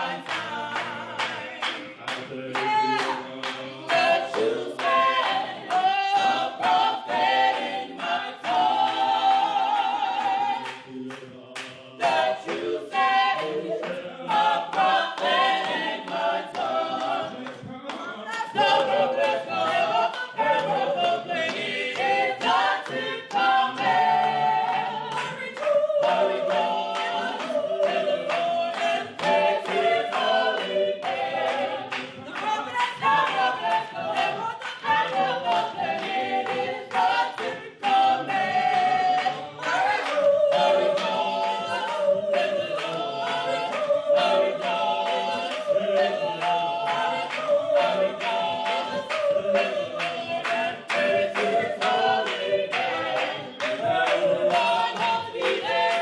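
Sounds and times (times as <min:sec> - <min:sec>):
gospel choir singing: 0:00.0 - 0:56.0
hand claps: 0:00.0 - 0:56.0.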